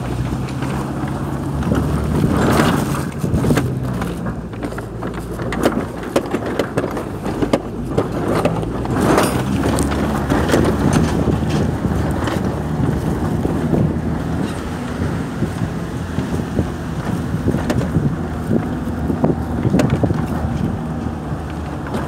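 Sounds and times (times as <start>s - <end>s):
knocks and rattles: 0.0s - 22.0s
vehicle engine running: 0.0s - 22.0s
wind buffeting microphone: 0.0s - 22.0s.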